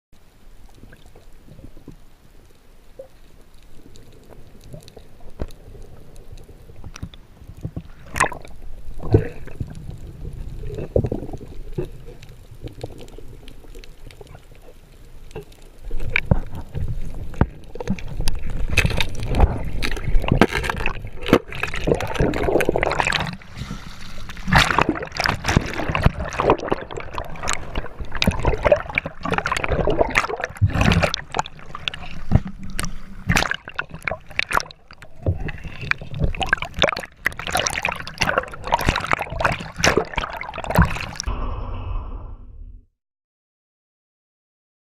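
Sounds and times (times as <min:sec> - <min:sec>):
water splashing and sloshing: 0:00.2 - 0:41.4.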